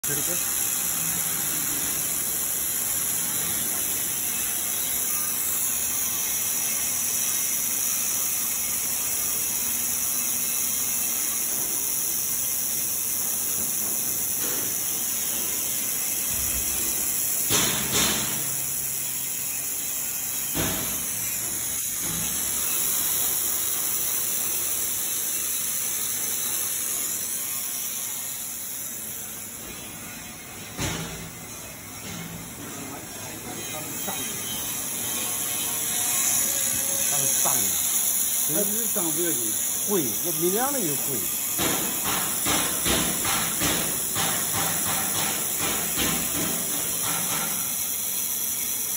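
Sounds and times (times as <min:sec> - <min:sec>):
laser welding torch hissing: 0:00.0 - 0:48.9.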